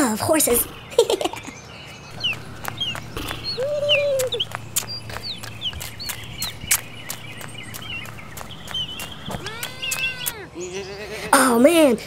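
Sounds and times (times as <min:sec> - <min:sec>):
small birds chirping: 0:00.0 - 0:12.0
longer lower bird call: 0:00.7 - 0:11.2.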